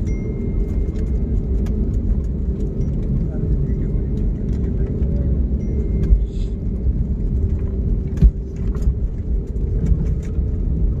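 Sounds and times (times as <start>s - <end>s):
airliner cabin rumble and hum: 0.0s - 11.0s.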